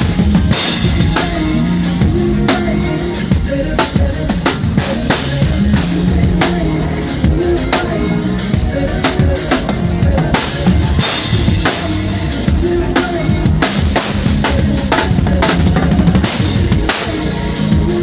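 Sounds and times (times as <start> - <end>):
bass and keyboard notes: 0.0 - 18.0
drum kit played hard: 0.0 - 18.0.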